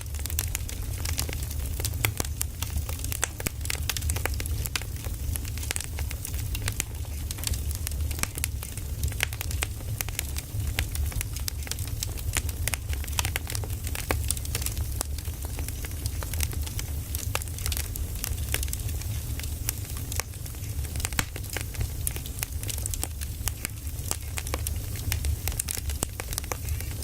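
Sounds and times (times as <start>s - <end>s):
firewood crackling and popping: 0.0s - 27.0s
low rumble of fire: 0.0s - 27.0s.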